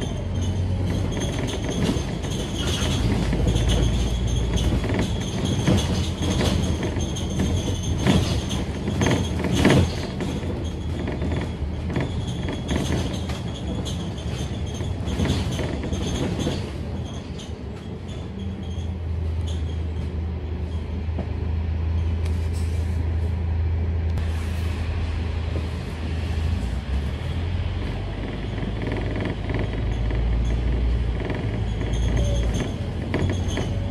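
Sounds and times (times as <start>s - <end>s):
body rattles and knocks: 0.0s - 21.4s, 27.7s - 33.9s
bus engine running: 0.0s - 33.9s.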